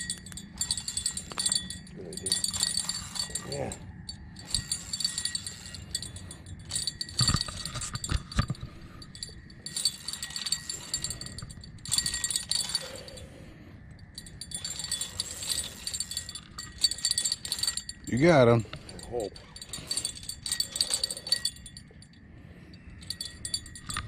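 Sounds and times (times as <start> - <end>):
fishing gear clinking on metal boat: 0.0 - 24.0.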